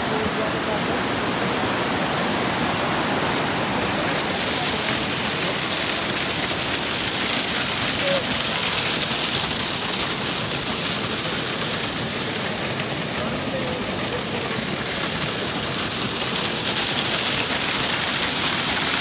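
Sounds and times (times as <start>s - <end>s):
river rapids rushing: 0.0s - 19.0s
waterfall splashing onto rocks: 0.0s - 19.0s.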